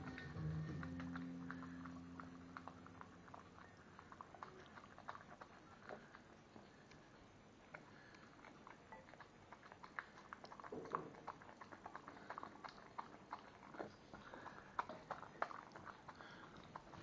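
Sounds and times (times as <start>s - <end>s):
dog chewing wet food: 0.0s - 17.0s.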